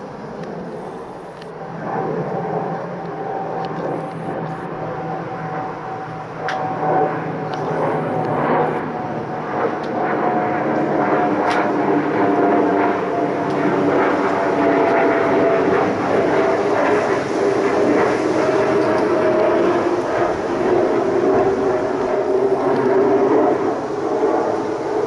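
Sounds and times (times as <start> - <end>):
turboprop engine whine: 0.0 - 25.0.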